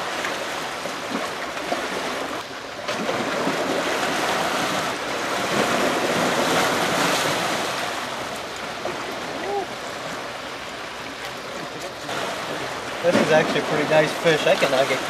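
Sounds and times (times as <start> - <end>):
river water splashing on rocks: 0.0 - 15.0.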